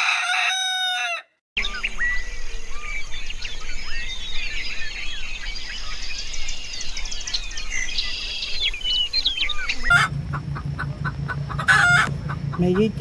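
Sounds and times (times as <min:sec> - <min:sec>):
small birds chirping: 0:01.6 - 0:13.0
steady low hum: 0:01.6 - 0:13.0.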